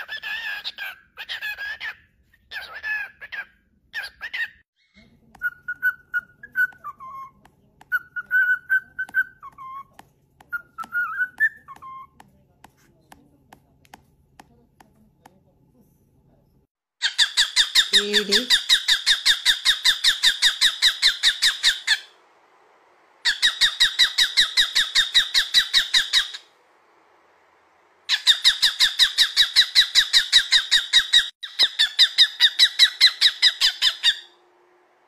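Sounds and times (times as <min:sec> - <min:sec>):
parrot chirping: 0:00.0 - 0:12.3, 0:17.0 - 0:35.0.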